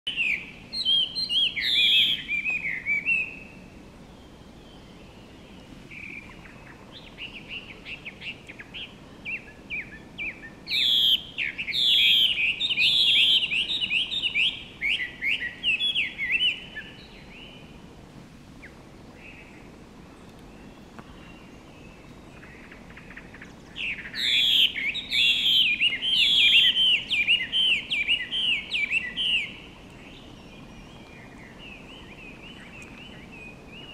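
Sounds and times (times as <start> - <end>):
bird singing whistled runs: 0.1 - 17.7, 18.6 - 33.9.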